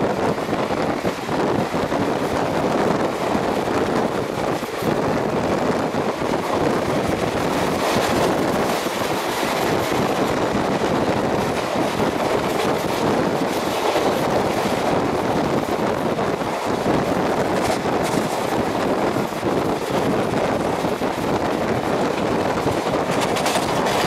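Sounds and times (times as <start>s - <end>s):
rushing air: 0.0s - 24.0s
train wheels on rails: 0.0s - 24.0s.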